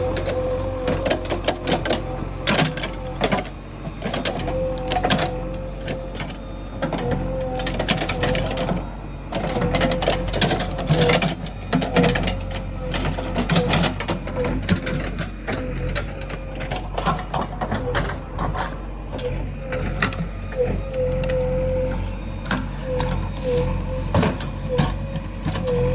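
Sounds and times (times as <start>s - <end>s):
geared machinery whining: 0.0s - 25.9s.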